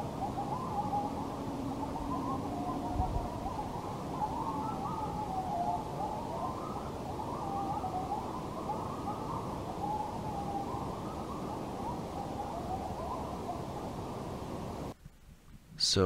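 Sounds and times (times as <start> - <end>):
coyotes howling and yipping: 0.0 - 14.9.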